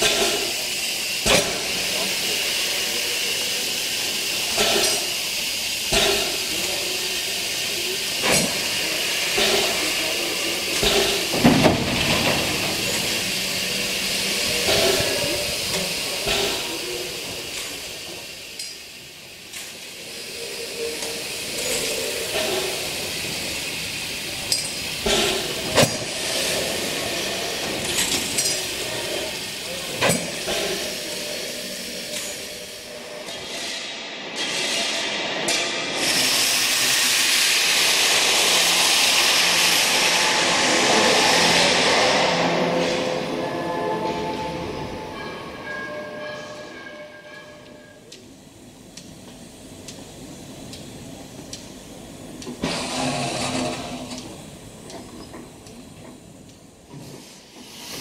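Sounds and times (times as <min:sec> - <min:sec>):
steam hissing: 0:00.0 - 0:58.0.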